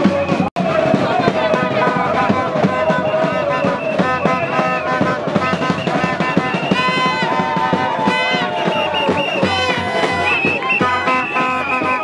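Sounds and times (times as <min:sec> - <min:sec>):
upbeat music with drum beat: 0:00.0 - 0:12.0.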